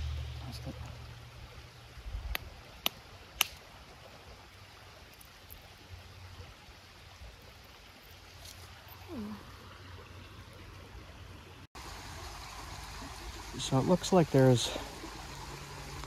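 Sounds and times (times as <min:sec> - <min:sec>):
river water rushing: 0:02.8 - 0:16.0.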